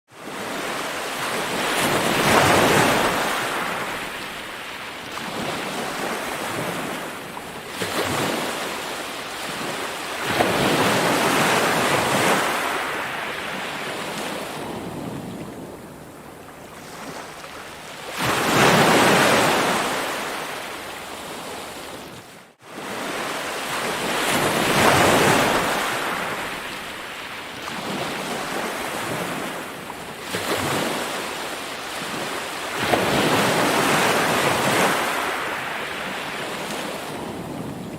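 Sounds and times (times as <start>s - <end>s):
ocean waves breaking: 0.1s - 37.9s.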